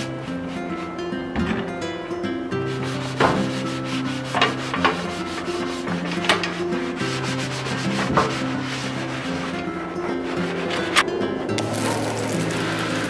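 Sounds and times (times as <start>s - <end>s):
sponge scrubbing metal door: 0.0s - 1.8s, 2.6s - 11.0s, 11.6s - 13.0s.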